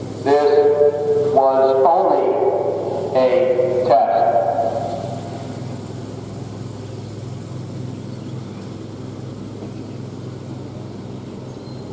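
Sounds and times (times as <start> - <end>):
vehicle engine idling: 0.0 - 11.9.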